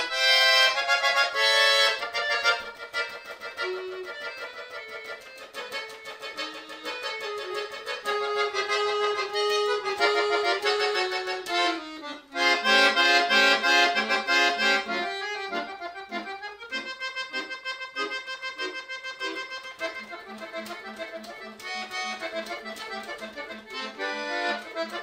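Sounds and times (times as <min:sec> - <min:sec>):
button accordion playing: 0:00.0 - 0:25.0.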